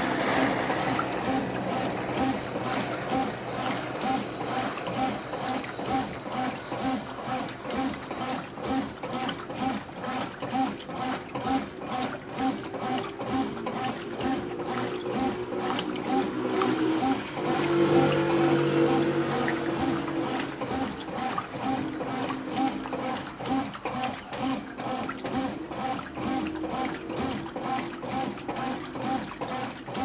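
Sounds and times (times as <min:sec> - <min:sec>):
washing machine churning water: 0:00.0 - 0:30.0.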